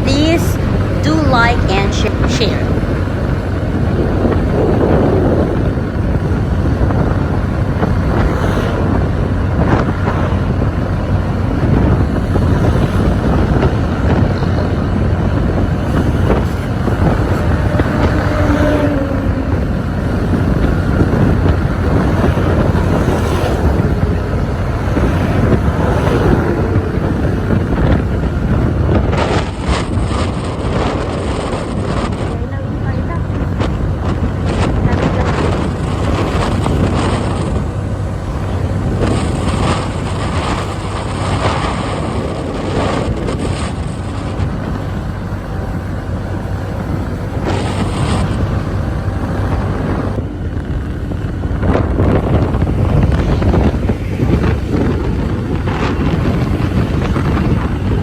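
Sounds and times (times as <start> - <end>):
scooter engine drone: 0.0 - 58.0
wind rush on microphone: 0.0 - 58.0.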